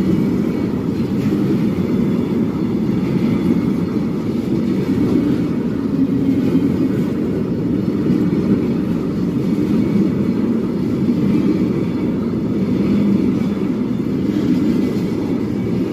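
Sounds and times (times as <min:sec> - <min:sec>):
freight train rumbling by: 0:00.0 - 0:15.9.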